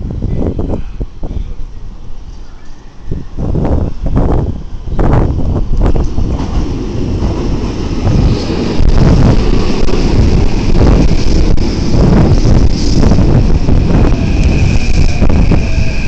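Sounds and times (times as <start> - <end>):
electric train running rumble: 0.0 - 16.0.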